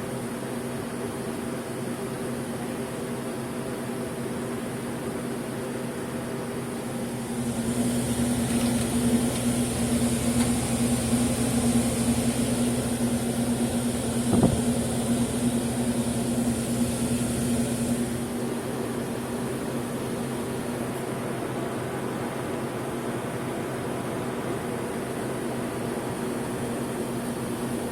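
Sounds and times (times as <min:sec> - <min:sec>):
refrigeration unit humming: 0:00.0 - 0:27.9.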